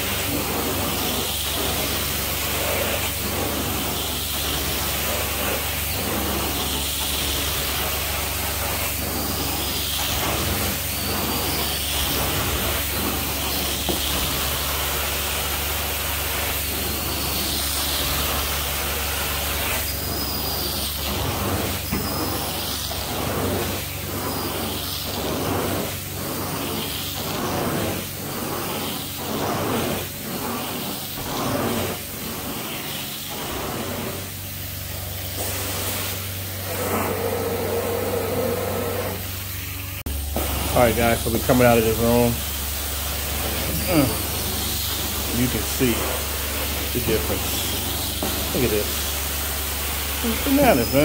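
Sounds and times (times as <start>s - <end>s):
extraction wand hissing: 0.0s - 51.0s
machine hum: 0.0s - 51.0s.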